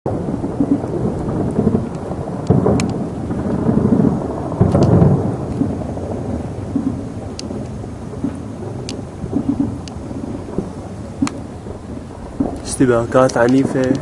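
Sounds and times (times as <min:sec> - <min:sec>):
heavy blasts: 0:00.1 - 0:14.0
rumble of explosions: 0:00.1 - 0:14.0.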